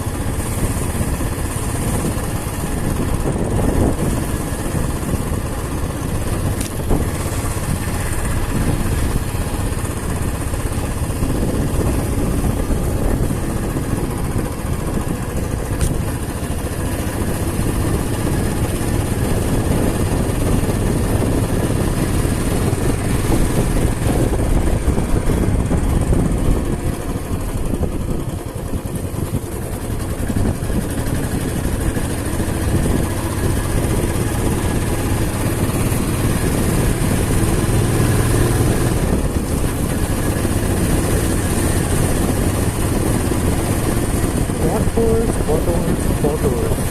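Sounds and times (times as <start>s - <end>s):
motorcycle engine drone: 0.0s - 46.9s.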